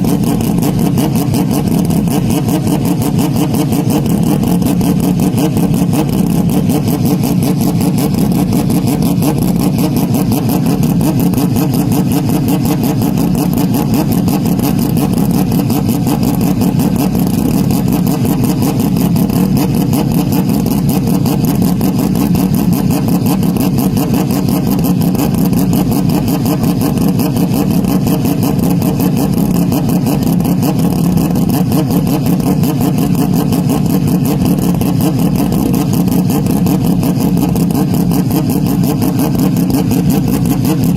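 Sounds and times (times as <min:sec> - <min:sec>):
car engine running steadily: 0:00.0 - 0:40.9.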